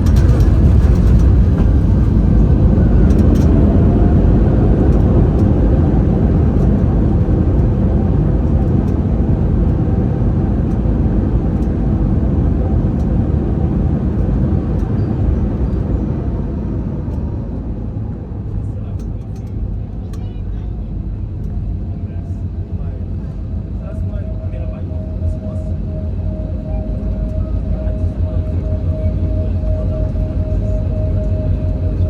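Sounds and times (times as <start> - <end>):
aircraft rumble in cabin: 0.0 - 32.0.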